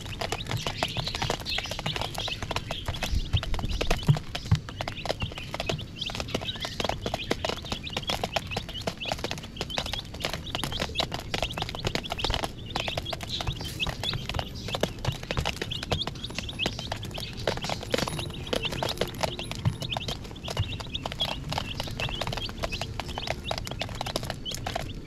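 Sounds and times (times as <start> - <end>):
beaks pecking plastic dish: 0.0 - 25.0
chicks peeping: 0.0 - 25.0.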